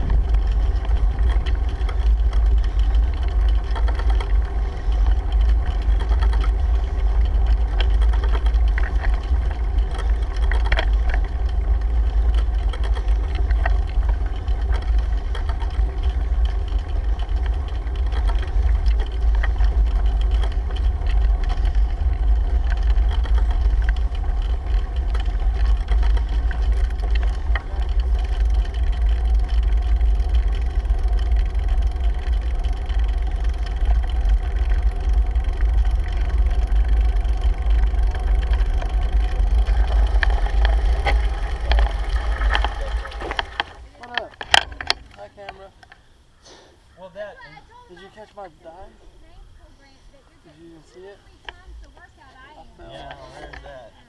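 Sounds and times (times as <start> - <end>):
wind buffeting microphone: 0.0 - 43.8
faint ticks: 0.0 - 46.1
bicycle riding noise: 0.0 - 54.0.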